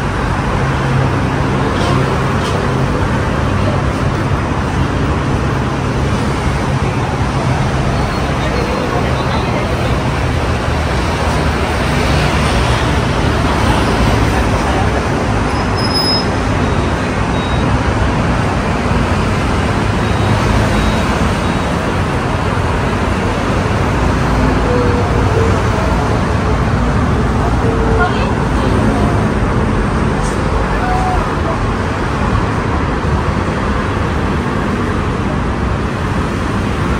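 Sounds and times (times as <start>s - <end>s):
city road traffic: 0.0s - 36.9s.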